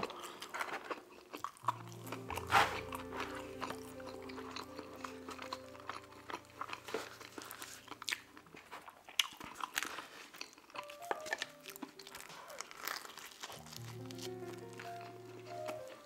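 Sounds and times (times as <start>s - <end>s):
chewing and biting pizza: 0.0s - 16.0s.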